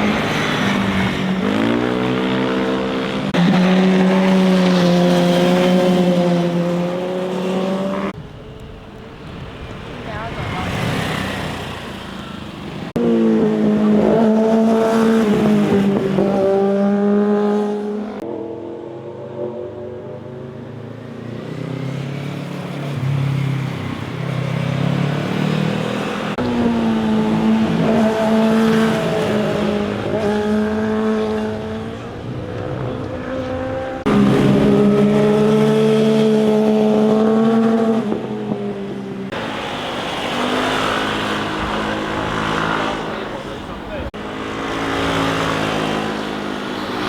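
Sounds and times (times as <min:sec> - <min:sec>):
loud engine passing: 0:00.0 - 0:08.2, 0:10.3 - 0:47.0
motorcycle engines revving: 0:00.0 - 0:47.0.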